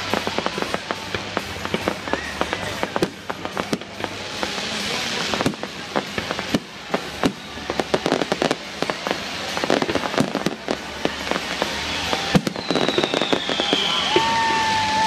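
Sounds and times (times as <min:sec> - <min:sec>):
firework whistle: 0:00.0 - 0:15.0
fireworks bangs and crackles: 0:00.0 - 0:15.0.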